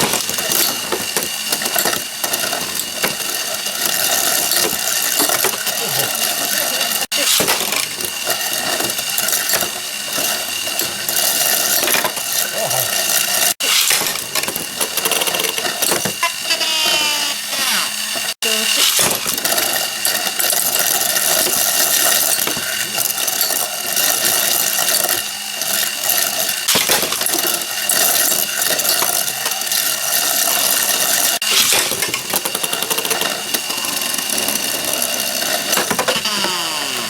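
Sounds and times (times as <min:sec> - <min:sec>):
spinning tops grinding in plastic arena: 0:00.0 - 0:37.0.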